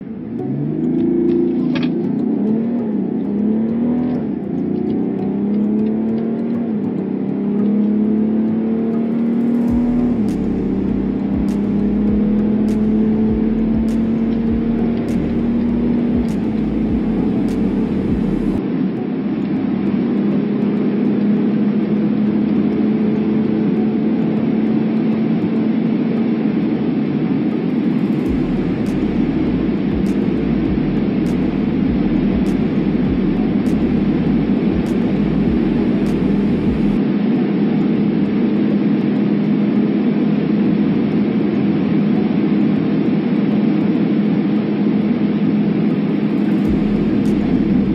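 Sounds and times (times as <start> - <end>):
car engine drone: 0.0 - 47.9.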